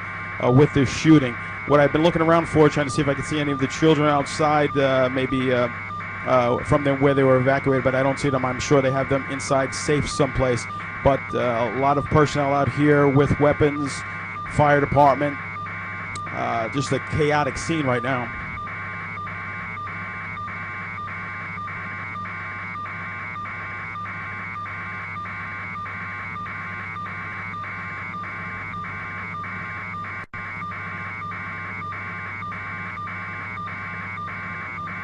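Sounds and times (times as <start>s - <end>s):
helicopter noise over a phone line: 0.0s - 35.0s.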